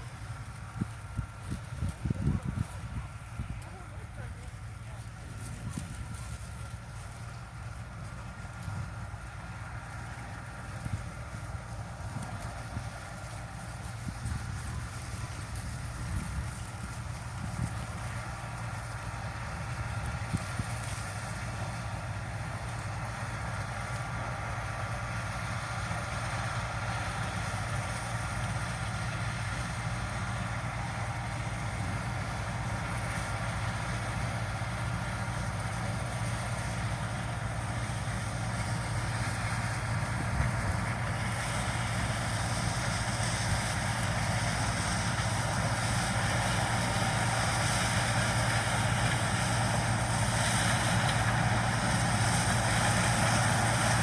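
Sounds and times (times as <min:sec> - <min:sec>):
combine harvester engine humming: 0:00.0 - 0:54.0.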